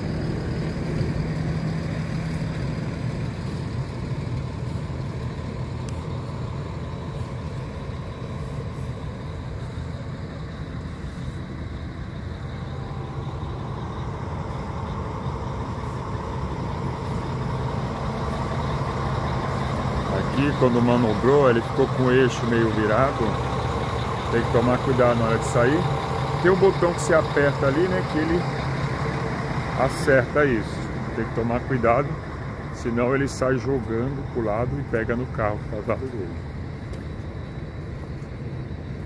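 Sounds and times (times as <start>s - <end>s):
bus diesel engine idling: 0.0s - 39.0s.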